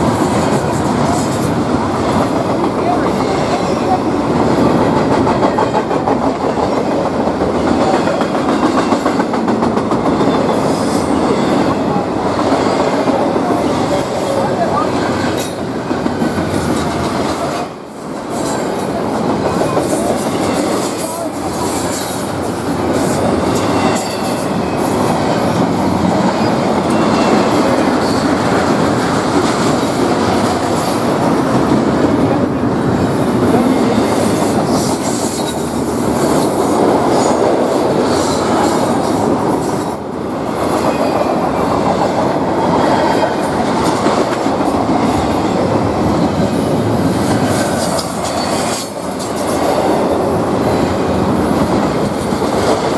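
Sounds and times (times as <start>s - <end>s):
train rumbling on rails: 0.0s - 52.9s.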